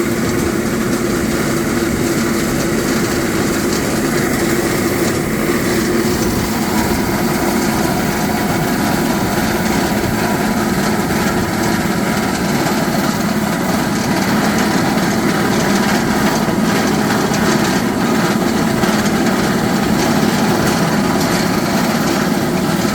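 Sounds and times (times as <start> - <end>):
drilling rig droning: 0.0 - 22.9.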